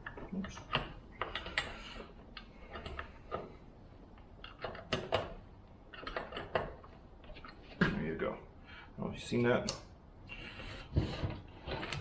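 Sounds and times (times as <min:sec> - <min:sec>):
metallic clicks and scrapes: 0:00.0 - 0:07.8, 0:09.7 - 0:12.0.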